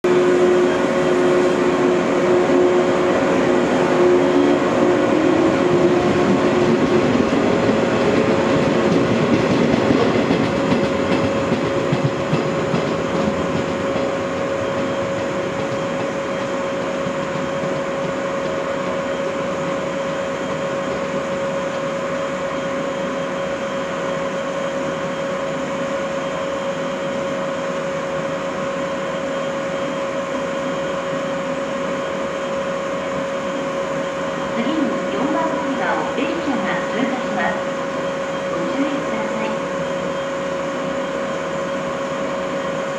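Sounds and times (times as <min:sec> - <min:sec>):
electric train running: 0:00.1 - 0:42.9.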